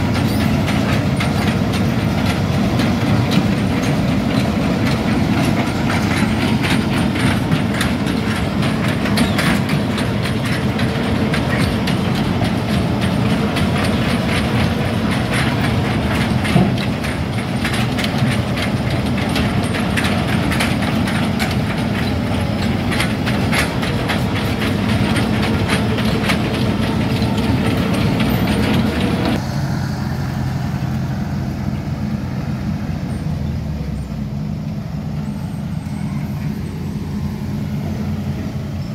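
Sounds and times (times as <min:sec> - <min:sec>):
diesel engine hum: 0:00.0 - 0:38.9
steel tracks clanking and rattling: 0:00.0 - 0:38.9.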